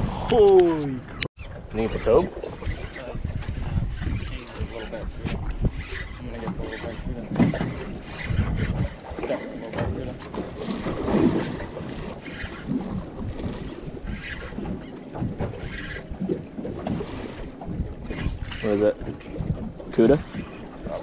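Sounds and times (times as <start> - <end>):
wind buffeting microphone: 0.0 - 21.0
water sloshing against boat hull: 0.6 - 21.0.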